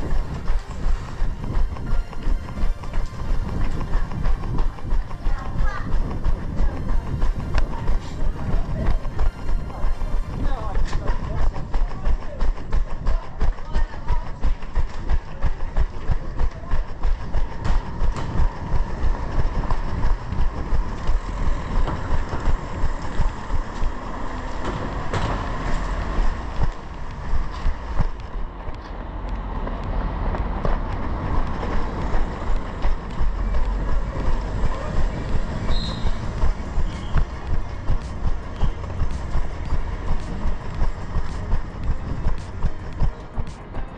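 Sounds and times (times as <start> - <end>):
running footsteps on cobbles: 0.0 - 43.9
steady low rumble: 0.0 - 43.9.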